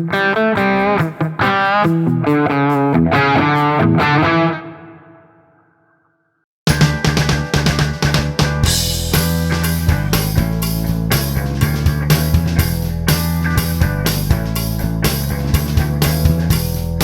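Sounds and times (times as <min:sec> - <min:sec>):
rock music: 0:00.0 - 0:05.4, 0:06.7 - 0:17.0.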